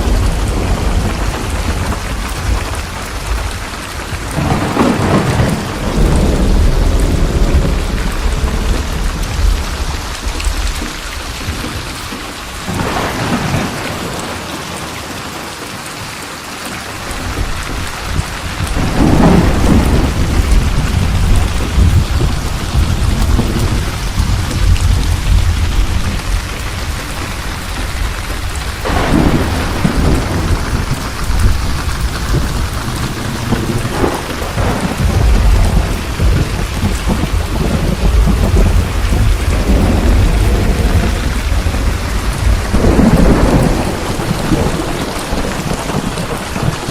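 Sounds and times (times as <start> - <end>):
rolling thunder: 0.0 - 14.9, 17.0 - 46.9
heavy rain: 0.0 - 46.9.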